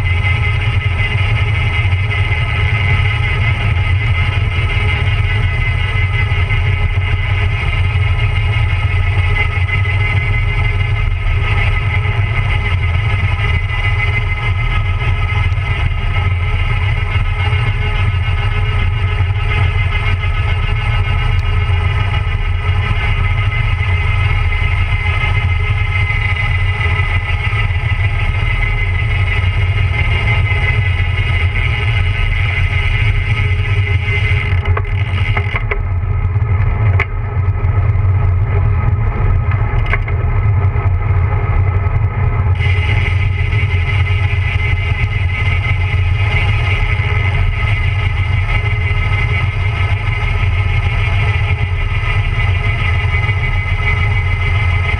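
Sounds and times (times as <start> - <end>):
bicycle tyre and road noise: 0.0 - 54.9
steady high whir: 0.0 - 54.9.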